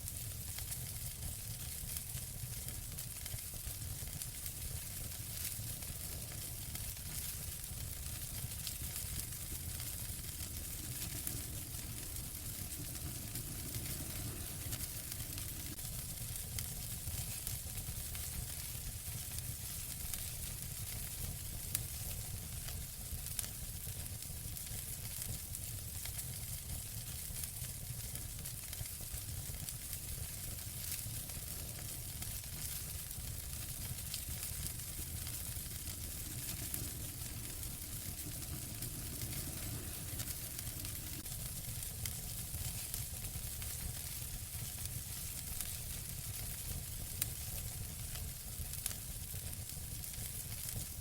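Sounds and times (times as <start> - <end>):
low rumble of flames: 0.0 - 51.0
wood fire crackling: 0.0 - 51.0
fire pops: 4.1 - 23.5, 27.0 - 49.0.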